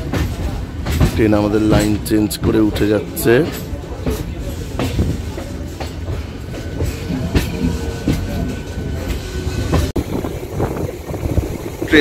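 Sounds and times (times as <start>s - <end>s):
train rumble: 0.0s - 12.0s
wheels clacking over rail joints: 0.0s - 12.0s.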